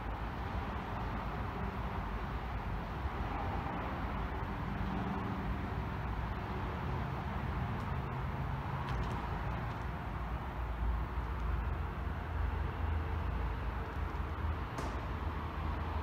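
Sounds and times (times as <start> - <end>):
ambient rumble and hiss: 0.0 - 16.0.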